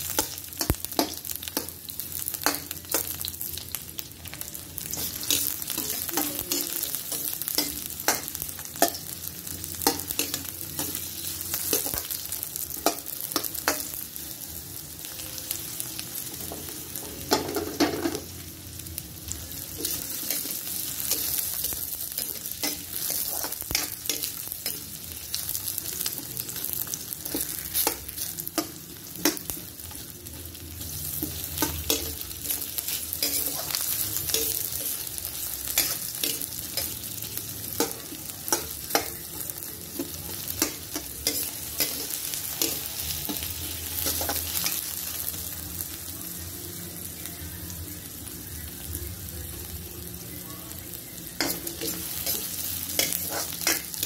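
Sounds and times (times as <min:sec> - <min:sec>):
onions sizzling in hot oil: 0:00.0 - 0:54.0.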